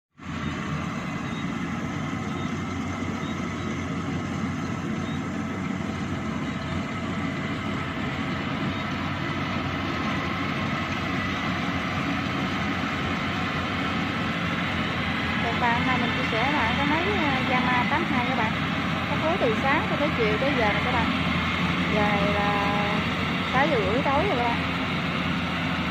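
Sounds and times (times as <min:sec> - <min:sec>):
diesel engine running under load: 0:00.1 - 0:25.9
high steady whine: 0:00.2 - 0:25.9.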